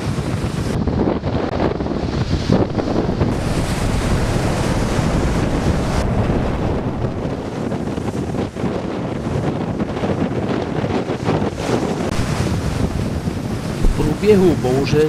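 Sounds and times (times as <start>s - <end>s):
surf breaking on shore: 0.0s - 15.0s
wind buffeting microphone: 0.0s - 15.0s.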